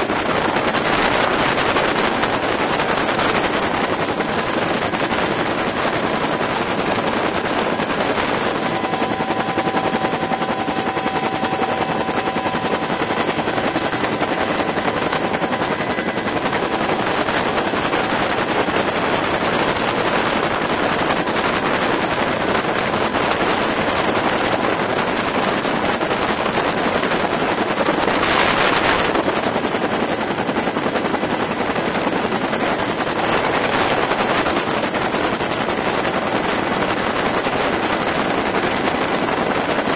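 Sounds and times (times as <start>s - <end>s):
helicopter turbine and rotor chop: 0.0s - 39.9s.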